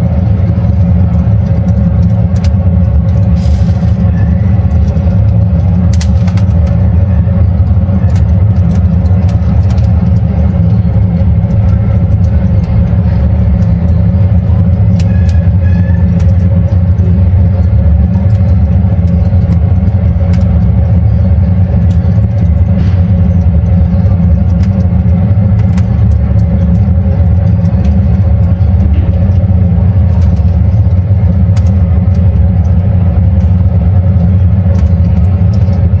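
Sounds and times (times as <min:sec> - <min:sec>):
charcoal crackling and popping: 0:00.0 - 0:36.0
low rumble: 0:00.0 - 0:36.0.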